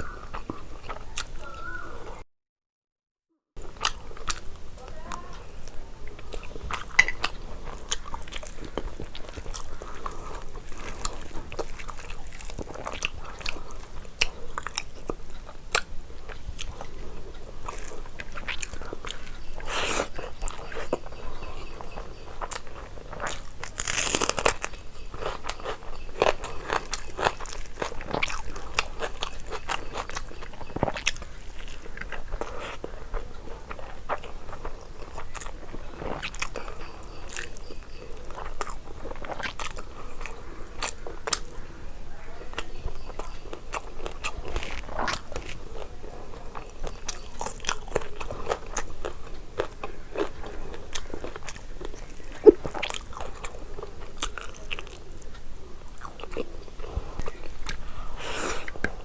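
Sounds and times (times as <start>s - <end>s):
person chewing food: 0.0s - 2.2s, 3.6s - 41.8s, 42.4s - 59.0s.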